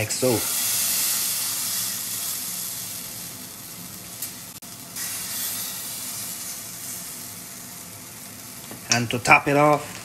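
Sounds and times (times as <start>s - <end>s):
batter sizzling on a hot skillet: 0.0s - 10.0s.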